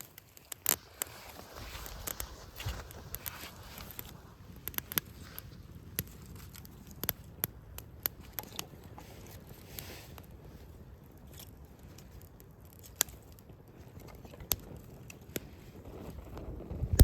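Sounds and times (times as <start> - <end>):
campfire wood crackling: 0.0 - 17.0
low steady hiss: 0.0 - 17.0.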